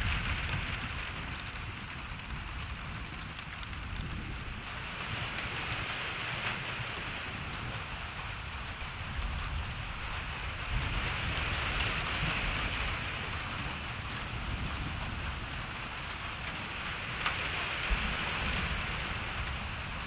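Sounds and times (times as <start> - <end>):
rain falling on a surface: 0.0 - 20.0.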